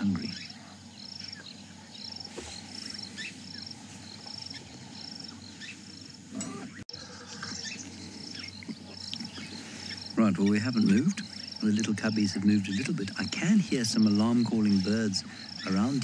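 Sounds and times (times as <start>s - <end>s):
bird calls: 0.0s - 16.0s
cricket chirping: 0.0s - 16.0s.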